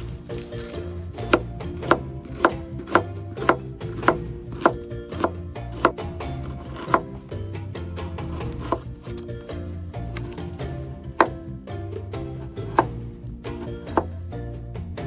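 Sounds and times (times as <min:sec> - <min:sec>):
chopping strikes: 0:00.0 - 0:11.6, 0:12.4 - 0:14.2.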